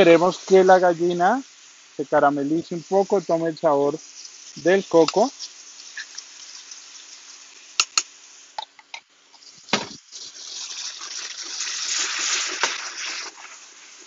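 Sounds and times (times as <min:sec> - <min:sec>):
chicken sizzling in frying pan: 0:00.0 - 0:14.0.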